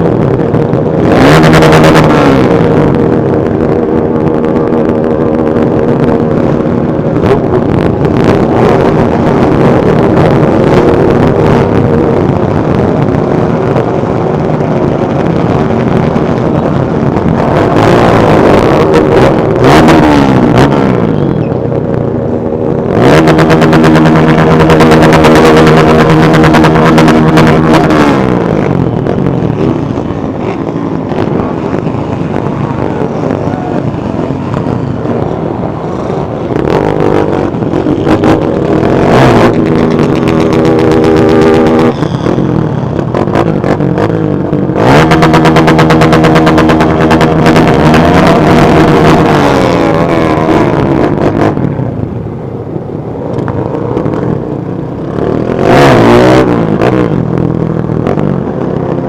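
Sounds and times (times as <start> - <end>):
motorcycle engines revving: 0.0 - 59.0
motorcycles passing by: 0.0 - 59.0.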